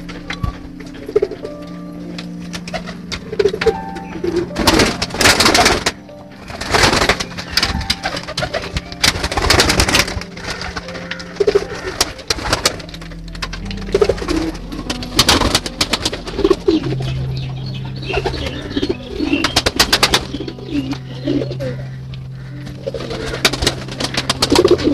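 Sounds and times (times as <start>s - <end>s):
pigeons cooing: 0.0s - 24.9s
wings flapping: 2.2s - 17.3s, 18.1s - 24.9s.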